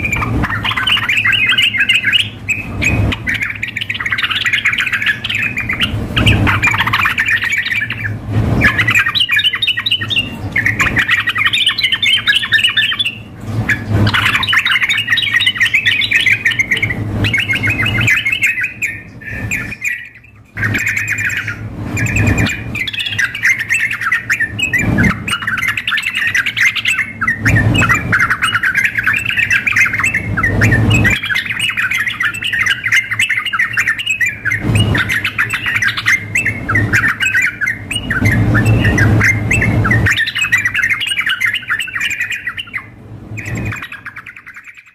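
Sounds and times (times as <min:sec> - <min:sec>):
birds chattering trilled calls: 0:00.0 - 0:44.9.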